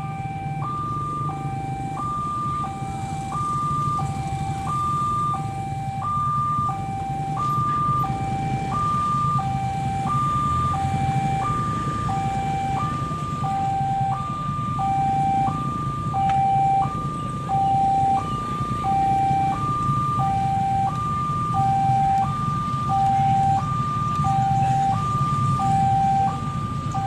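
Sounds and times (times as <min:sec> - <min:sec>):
two-tone warning siren: 0:00.0 - 0:27.0.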